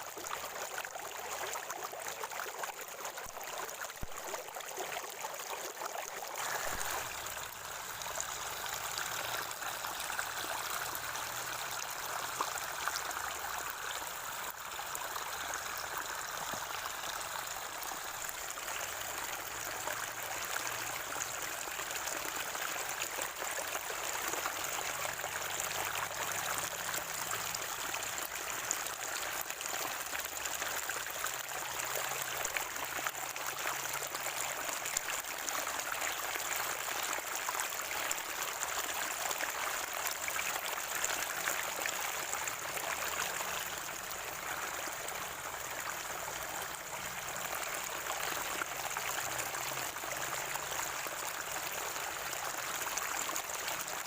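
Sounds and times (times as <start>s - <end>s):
spring water gurgling: 0.0s - 54.0s.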